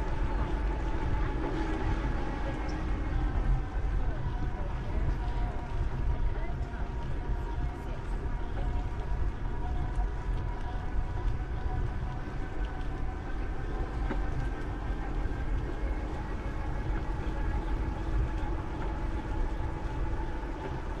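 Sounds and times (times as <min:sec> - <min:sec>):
faint whining tones: 0:00.0 - 0:21.0
wind buffeting microphone: 0:00.0 - 0:21.0.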